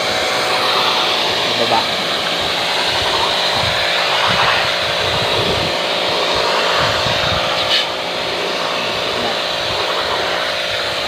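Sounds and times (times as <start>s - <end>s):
pressure washer spraying water: 0.0s - 11.0s.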